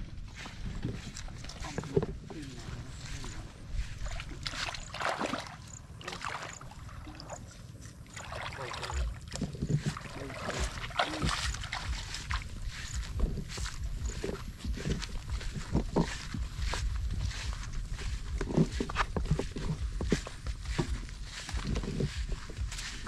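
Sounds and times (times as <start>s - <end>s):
bare feet sloshing through puddle: 0.3s - 23.0s.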